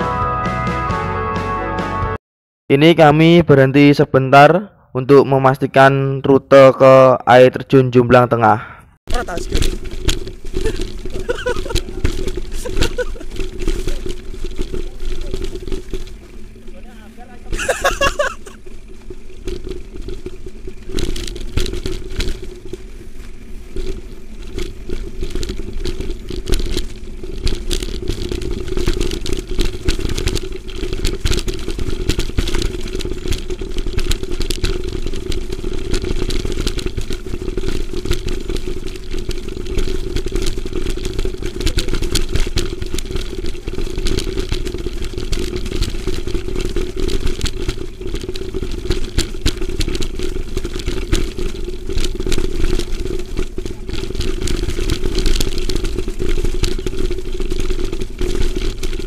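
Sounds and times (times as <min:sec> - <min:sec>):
bike and camera rattling: 0:09.1 - 0:59.0.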